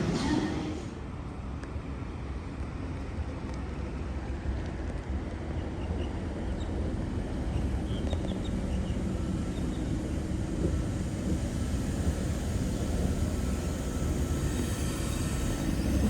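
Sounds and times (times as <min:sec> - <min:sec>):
electric train rumbling: 0:00.0 - 0:16.0
faint train whine: 0:00.0 - 0:16.0.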